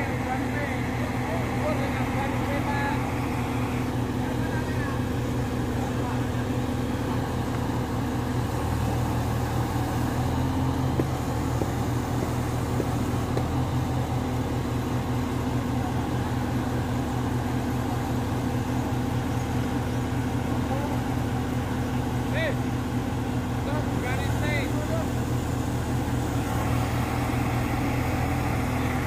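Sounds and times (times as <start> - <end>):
crane engine droning: 0.0 - 29.0.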